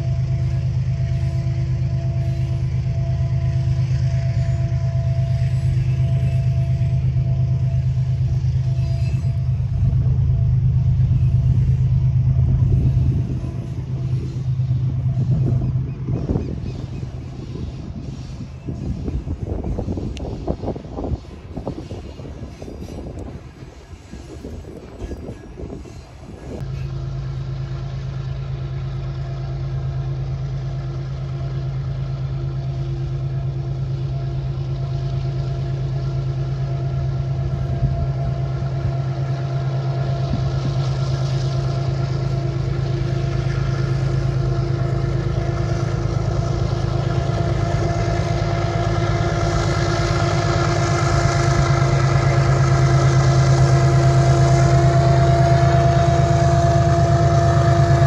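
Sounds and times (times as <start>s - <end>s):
diesel locomotive engine droning: 0.0s - 58.0s
wagons rumbling on rails: 0.0s - 58.0s.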